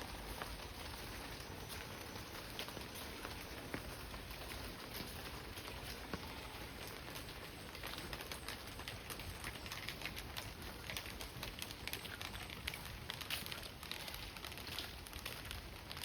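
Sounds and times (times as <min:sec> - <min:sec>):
heavy rain pattering: 0:00.0 - 0:16.0.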